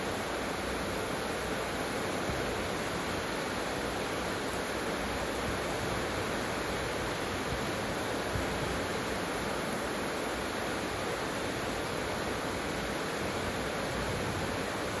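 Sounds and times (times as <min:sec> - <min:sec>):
heavy rain on roof tiles: 0:00.0 - 0:15.0.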